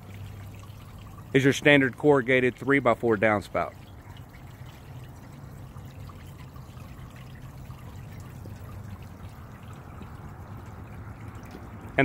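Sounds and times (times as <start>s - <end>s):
low steady hum: 0.0s - 12.0s
water drips and splashes: 0.0s - 12.0s
water pouring into a basin: 0.0s - 12.0s.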